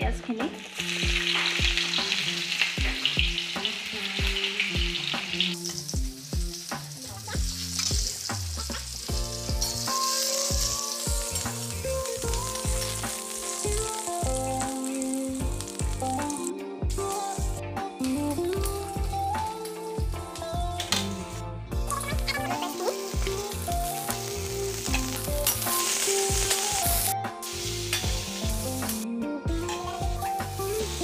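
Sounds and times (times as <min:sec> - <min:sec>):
music with steady beat: 0:00.0 - 0:31.0
onions sizzling in hot oil: 0:00.0 - 0:31.0.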